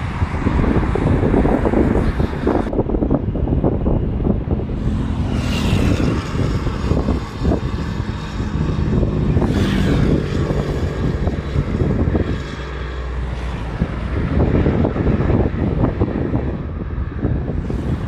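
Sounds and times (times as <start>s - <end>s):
road traffic rumble: 0.0s - 18.0s
vehicles passing: 0.0s - 18.0s
wind buffeting microphone: 0.0s - 18.0s.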